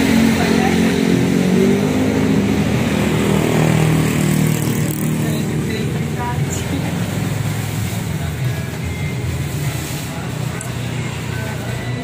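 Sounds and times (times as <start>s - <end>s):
road traffic engine noise: 0.0s - 12.0s.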